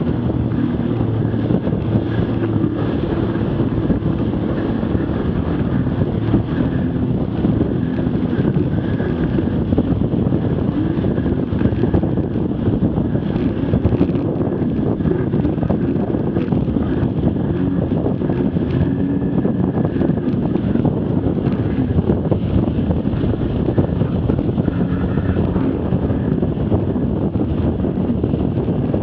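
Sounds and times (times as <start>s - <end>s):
jet ski engine and spray: 0.0s - 29.0s
wind buffeting microphone: 0.0s - 29.0s.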